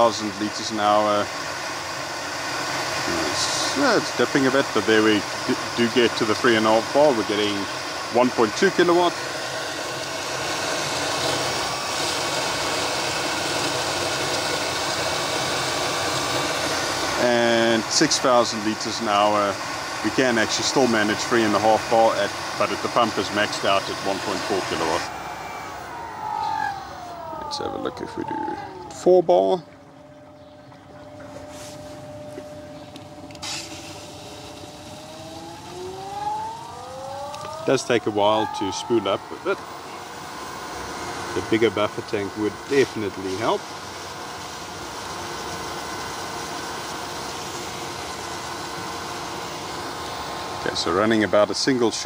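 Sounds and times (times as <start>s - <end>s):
pump humming with hiss: 0.0s - 52.0s.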